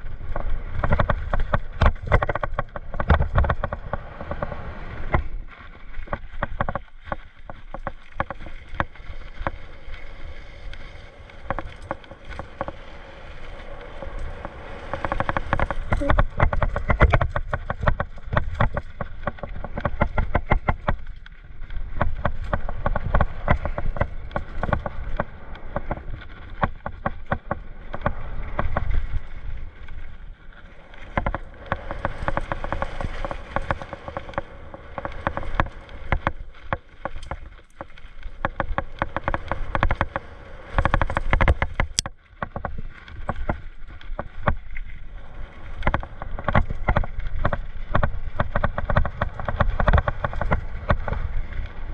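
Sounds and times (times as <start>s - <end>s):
mountain bike rattling on trail: 0.0s - 51.9s.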